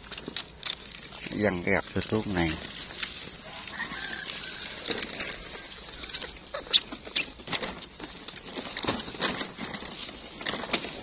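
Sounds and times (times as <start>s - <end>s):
footsteps crackling through dry grass: 0.0s - 11.0s.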